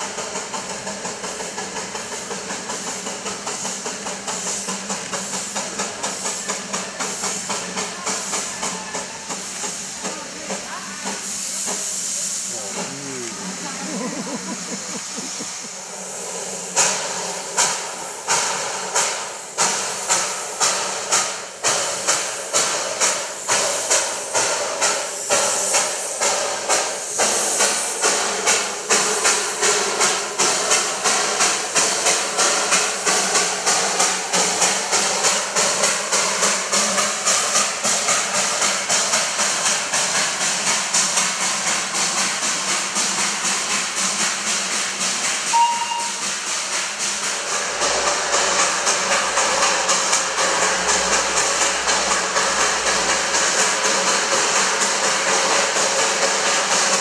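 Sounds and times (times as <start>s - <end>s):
steam hissing: 0.0s - 57.0s
steam locomotive exhaust chuffs: 0.0s - 57.0s.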